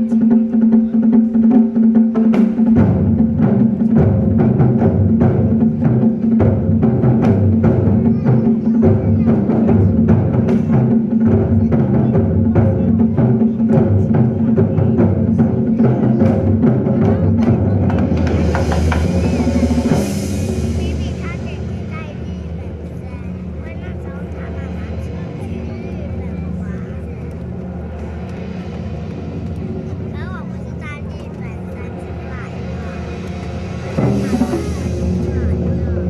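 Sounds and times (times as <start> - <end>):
low drum beats: 0.0 - 36.0.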